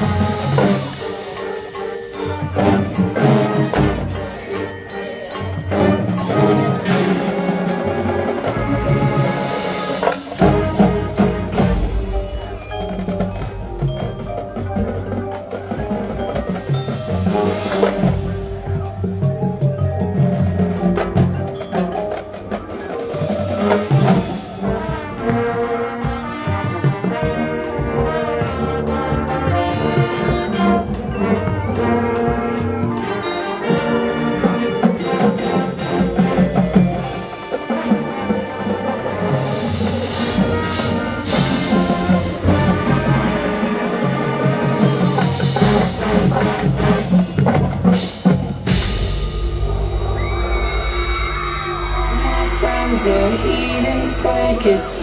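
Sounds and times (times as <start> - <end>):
marching band playing: 0.0 - 55.0.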